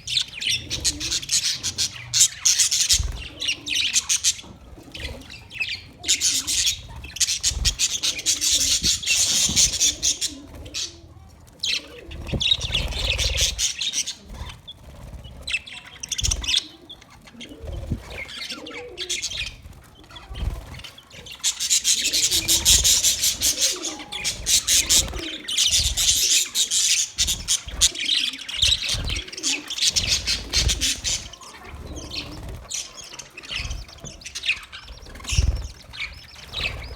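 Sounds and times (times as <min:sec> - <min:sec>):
budgerigars chirping: 0:00.0 - 0:36.9.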